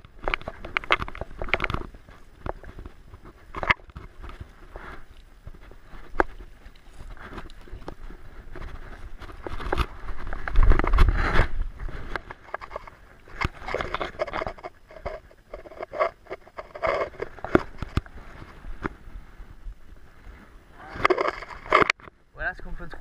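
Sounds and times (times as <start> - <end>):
clothing rubbing against camera: 0.2 - 22.0.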